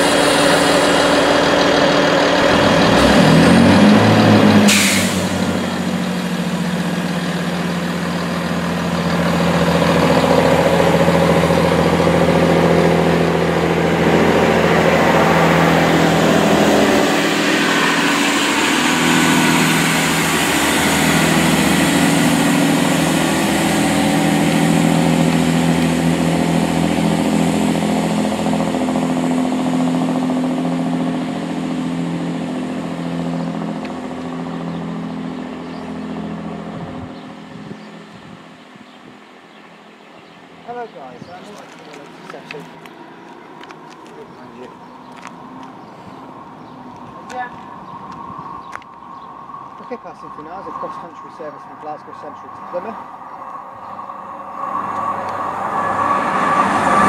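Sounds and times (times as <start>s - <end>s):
diesel train engines running: 0.0s - 57.0s.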